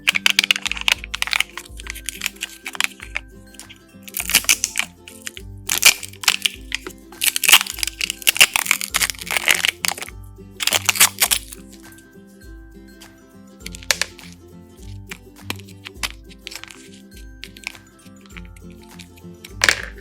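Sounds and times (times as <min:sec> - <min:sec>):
packaging crackling and crinkling: 0:00.0 - 0:11.9, 0:13.7 - 0:14.3, 0:15.4 - 0:20.0
background music: 0:00.0 - 0:20.0.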